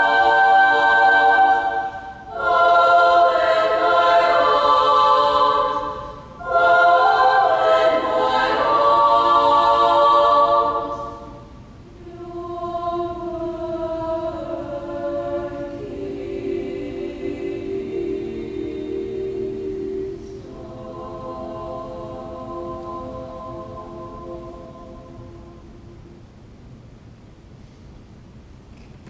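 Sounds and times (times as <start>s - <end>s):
girls' choir singing chords: 0.0s - 26.3s.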